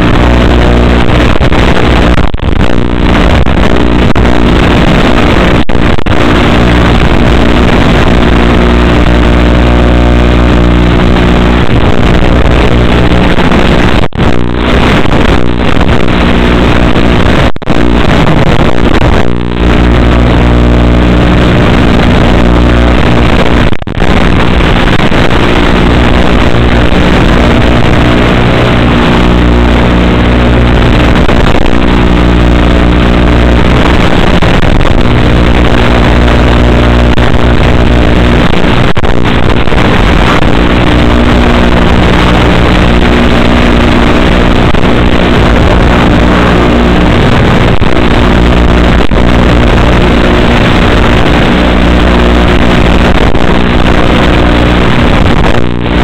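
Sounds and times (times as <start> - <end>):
electronic buzz with tones: 0.0 - 56.0.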